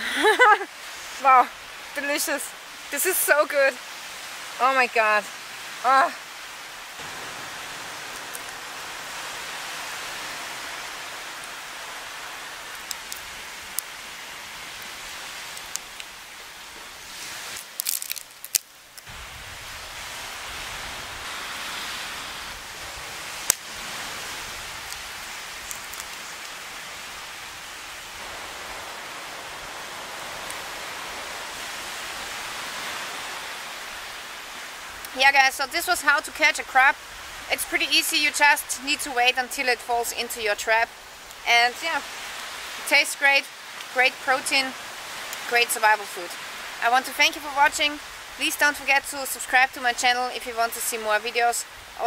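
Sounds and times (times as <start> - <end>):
rushing outdoor background noise: 0.0 - 52.0.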